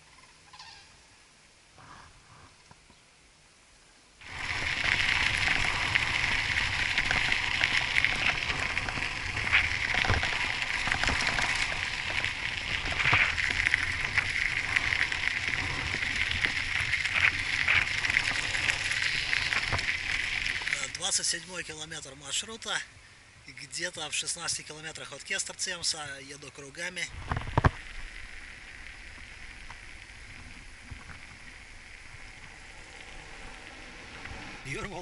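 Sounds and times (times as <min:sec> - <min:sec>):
bike tyres crunching on gravel: 0:04.2 - 0:22.9, 0:23.5 - 0:35.0.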